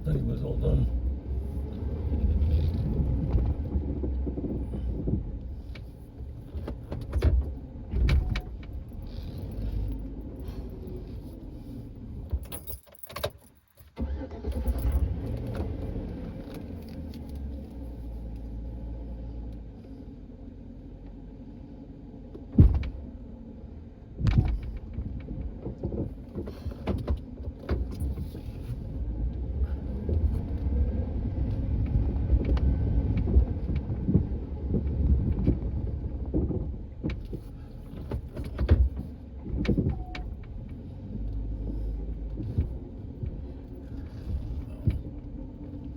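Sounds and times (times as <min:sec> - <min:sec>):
vehicle engine running: 0:00.0 - 0:12.4, 0:14.6 - 0:45.9.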